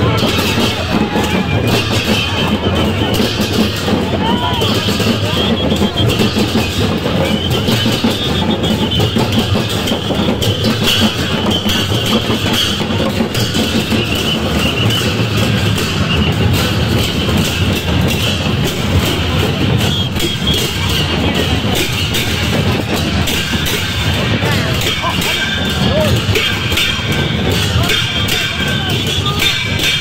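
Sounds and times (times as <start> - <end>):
drum-led music: 0.0 - 30.0.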